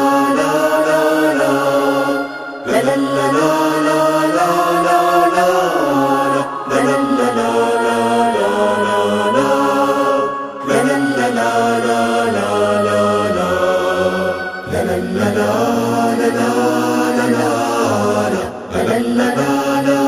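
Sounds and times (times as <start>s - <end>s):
voices chanting long notes: 0.0s - 20.0s.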